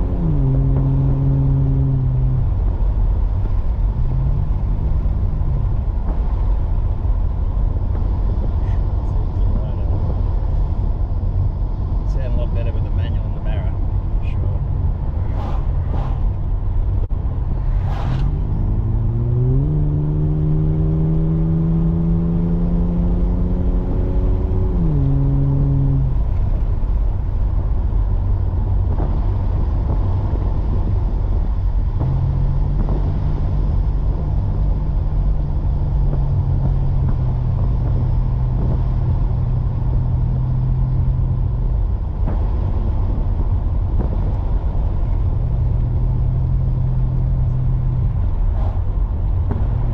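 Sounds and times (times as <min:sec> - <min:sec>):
car engine droning: 0:00.0 - 0:49.9
low rumble: 0:00.0 - 0:49.9.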